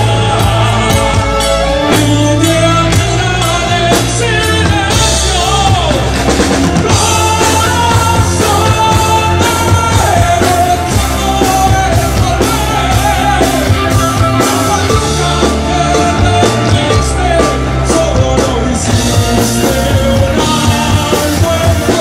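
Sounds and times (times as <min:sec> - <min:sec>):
bass guitar: 0:00.0 - 0:22.0
drum kit: 0:00.0 - 0:22.0
electric guitar: 0:00.0 - 0:22.0
keyboards: 0:00.0 - 0:22.0
person singing: 0:00.0 - 0:22.0.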